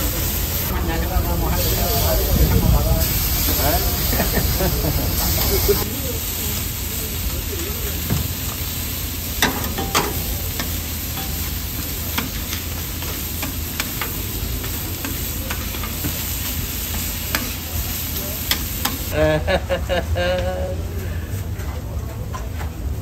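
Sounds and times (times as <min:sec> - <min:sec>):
eggs sizzling on a griddle: 0:00.0 - 0:19.2.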